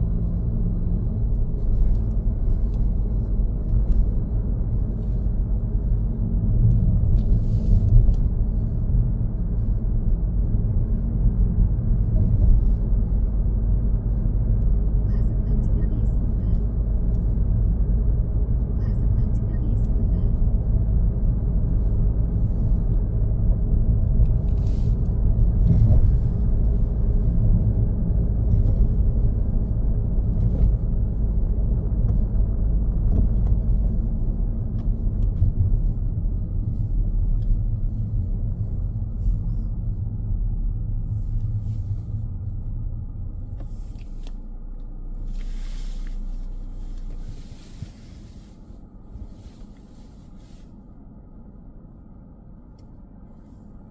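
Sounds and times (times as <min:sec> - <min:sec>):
car engine and tyres rumbling: 0:00.0 - 0:53.9.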